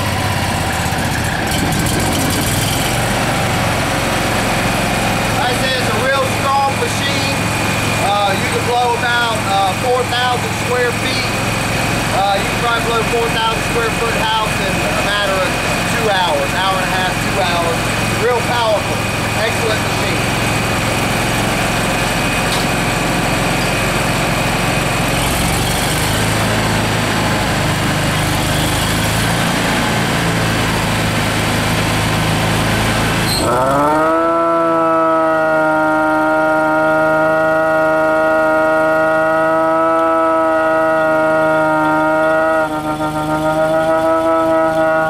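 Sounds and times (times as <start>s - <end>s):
machine engine humming: 0.0s - 45.0s.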